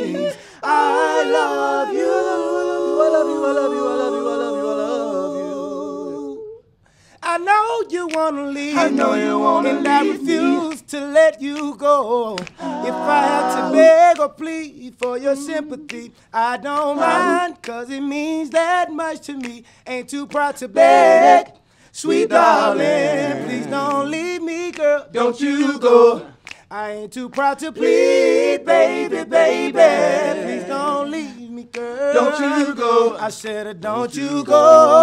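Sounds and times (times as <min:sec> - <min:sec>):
male vocal group singing: 0:00.0 - 0:06.6, 0:07.2 - 0:35.0.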